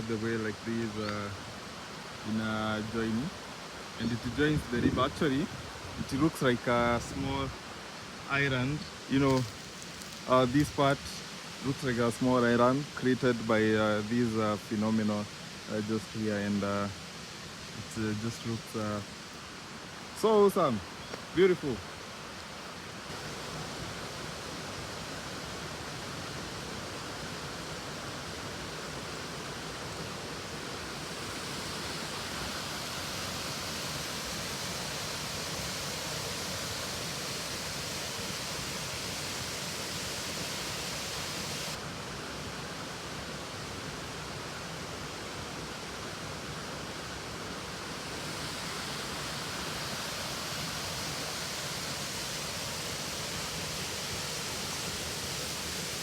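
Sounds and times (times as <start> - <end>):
waterfall and river rushing: 0.0 - 56.0.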